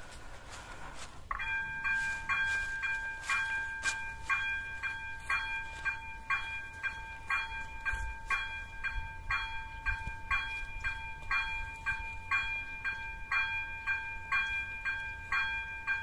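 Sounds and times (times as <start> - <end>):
electronic level crossing bell: 1.3 - 16.0.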